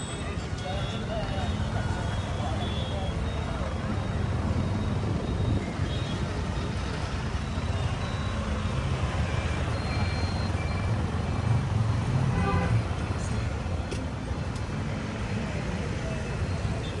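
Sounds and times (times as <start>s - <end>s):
people's voices: 0.0s - 11.9s, 12.9s - 17.0s
traffic engines humming: 0.0s - 17.0s.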